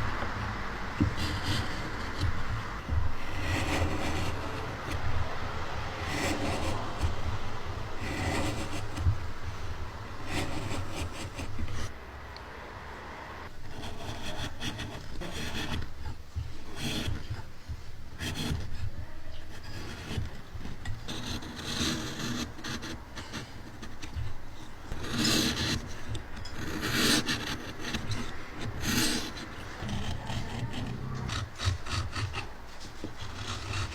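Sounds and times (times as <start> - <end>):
hand tool scraping wood: 0.9 - 11.9, 13.6 - 33.9.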